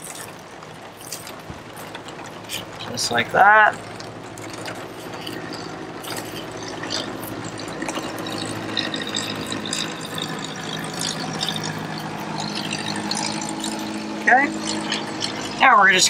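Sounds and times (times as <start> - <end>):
low hum: 0.0 - 16.0
running water: 0.0 - 16.0.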